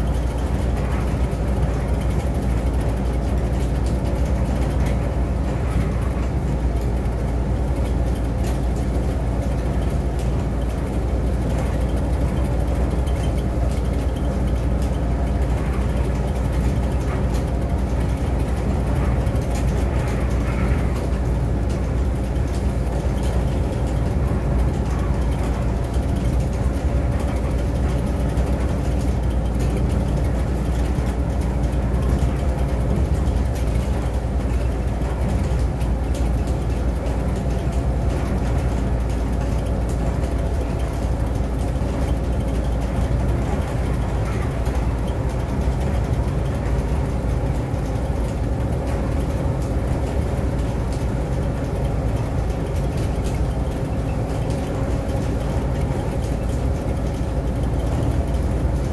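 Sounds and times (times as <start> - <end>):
bus engine rumble: 0.0 - 58.9
road noise: 0.0 - 58.9.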